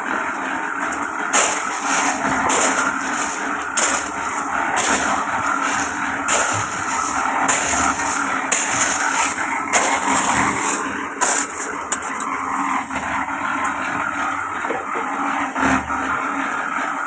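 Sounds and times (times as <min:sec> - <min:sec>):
motor running: 0:00.9 - 0:17.0.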